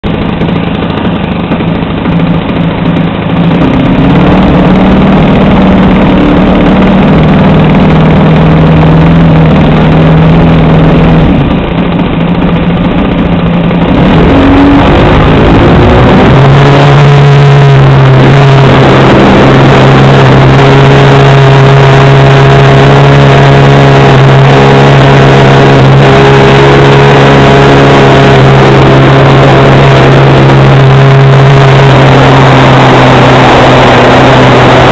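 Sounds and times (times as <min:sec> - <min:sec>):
model aircraft engine running: 0:00.0 - 0:34.9.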